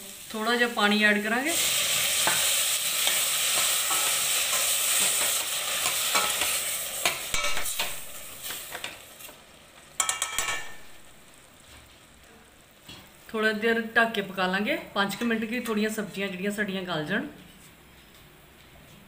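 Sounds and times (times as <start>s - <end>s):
vegetables sizzling in pot: 0.0s - 16.8s.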